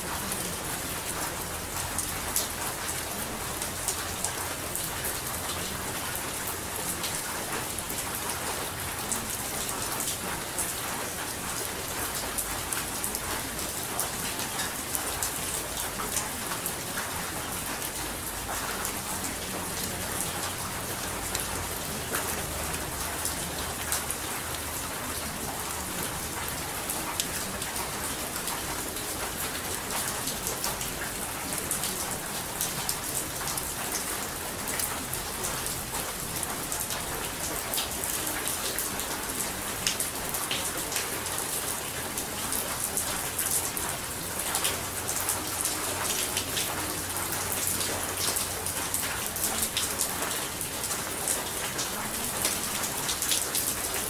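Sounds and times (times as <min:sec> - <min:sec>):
rain drops ticking: 0:00.0 - 0:54.0
steady rain hiss: 0:00.0 - 0:54.0.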